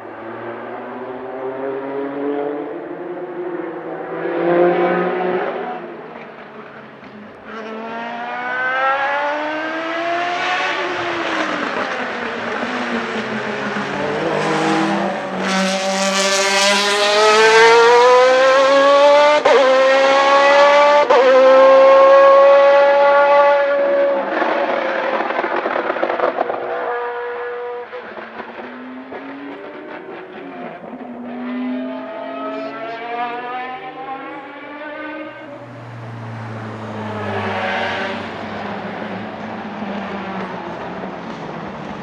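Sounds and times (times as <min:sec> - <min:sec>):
race car engine revving: 0:00.2 - 0:42.0.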